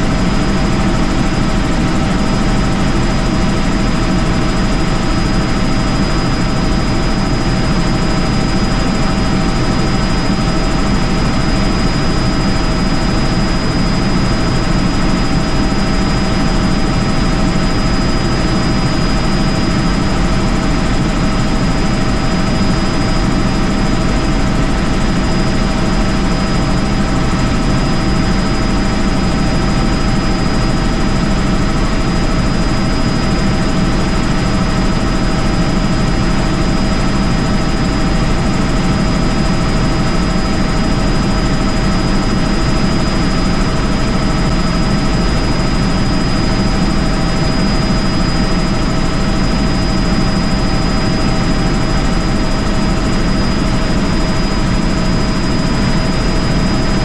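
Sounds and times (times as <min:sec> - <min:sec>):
constant high whine: 0:00.0 - 0:57.0
helicopter rotor and engine noise: 0:00.0 - 0:57.0.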